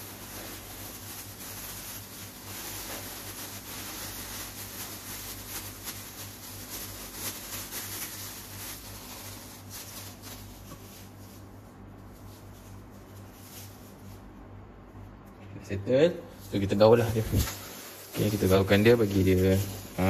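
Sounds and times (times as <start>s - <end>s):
plastic bag crinkling: 0.0s - 14.5s, 16.4s - 20.0s
low steady hum: 0.0s - 20.0s.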